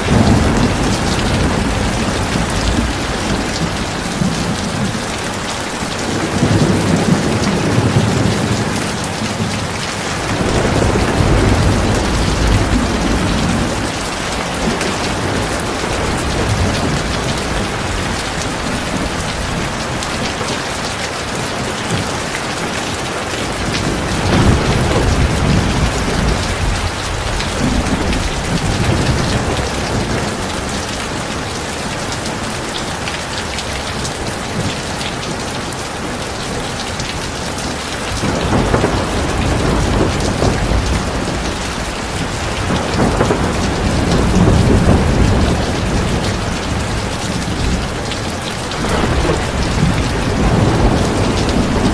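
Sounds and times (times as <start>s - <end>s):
thunder rumbling: 0.0s - 20.6s, 23.2s - 31.4s, 37.8s - 51.9s
heavy rain pouring: 0.0s - 51.9s.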